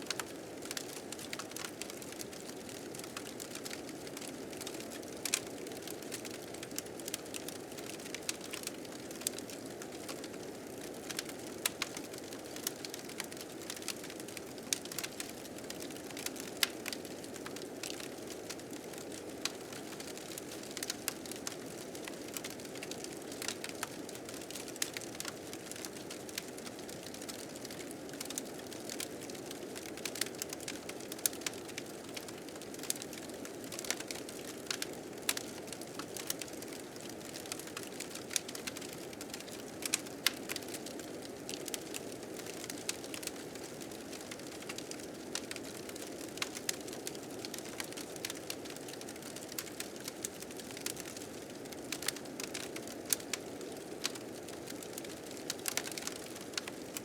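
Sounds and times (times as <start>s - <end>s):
wood fire crackling and popping: 0.1s - 57.0s.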